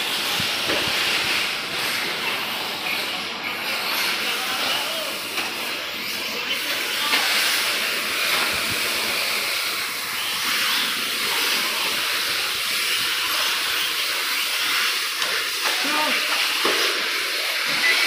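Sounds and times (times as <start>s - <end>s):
rc cars racing: 0.0s - 18.0s.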